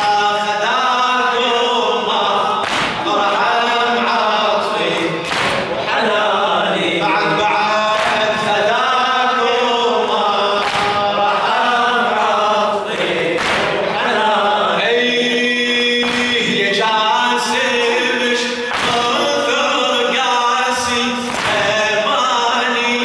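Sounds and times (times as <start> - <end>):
man chanting a lament: 0.0 - 23.0.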